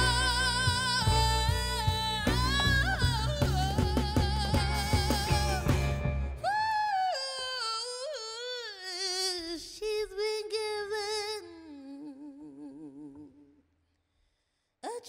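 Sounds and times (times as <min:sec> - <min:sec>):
woman singing wordless notes: 0:00.0 - 0:13.5.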